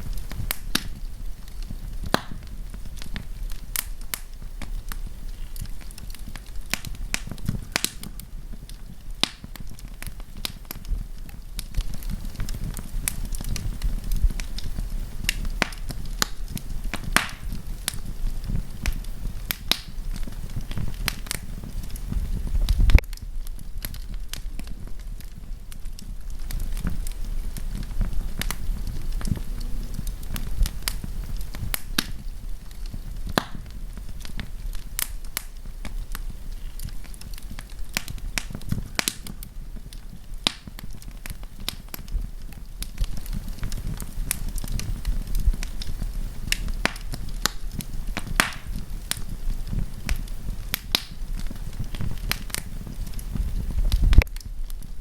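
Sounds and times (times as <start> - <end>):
campfire crackling and popping: 0.0 - 55.0
low rumble of flame: 0.0 - 55.0.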